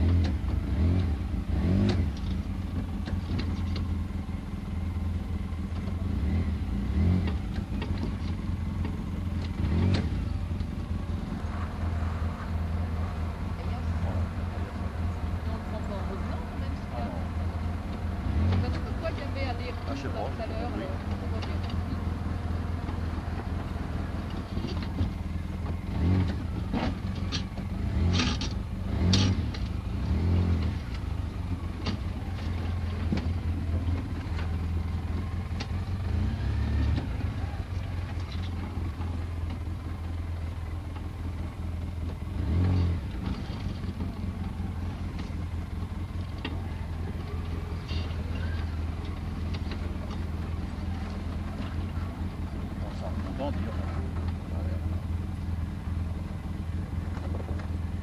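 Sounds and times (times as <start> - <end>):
quad bike engine revving: 0.0 - 4.5, 5.6 - 58.0
knocks and rattles from rough ground: 1.8 - 4.2, 4.9 - 58.0.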